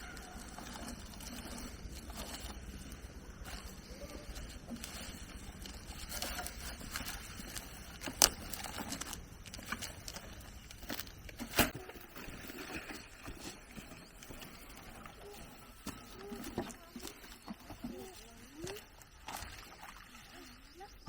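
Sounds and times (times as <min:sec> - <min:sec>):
rustling: 0:00.0 - 0:20.5.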